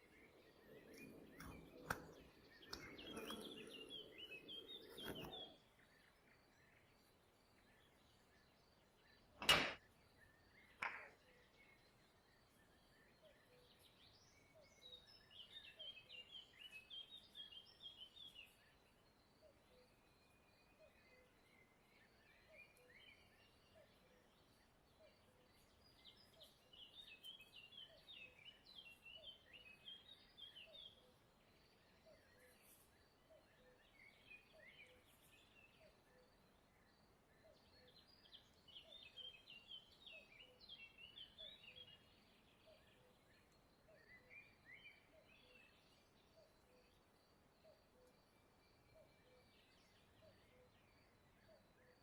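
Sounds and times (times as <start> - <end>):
faint birdsong chirping: 0.0 - 52.0.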